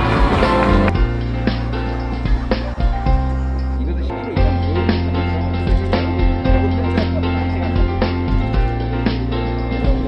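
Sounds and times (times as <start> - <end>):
background music with deep bass: 0.0 - 10.0.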